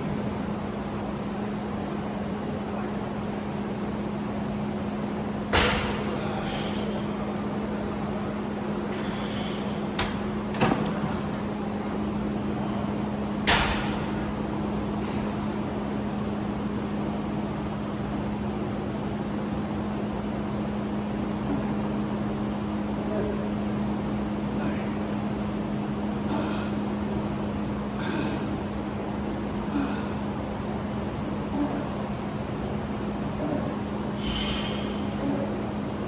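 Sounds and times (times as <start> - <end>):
low hum: 7.0 - 36.0.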